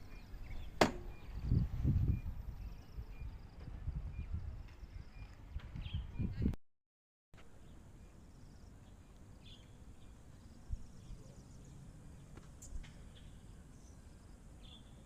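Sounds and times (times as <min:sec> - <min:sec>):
bird chirps: 0:00.0 - 0:06.5, 0:07.6 - 0:15.0.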